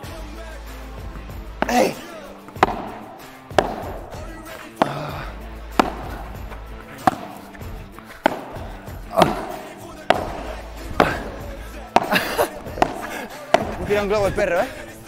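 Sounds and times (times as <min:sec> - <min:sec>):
background music: 0:00.0 - 0:15.0
paddle hitting ball: 0:01.5 - 0:14.8
ball bouncing on court: 0:01.6 - 0:14.4.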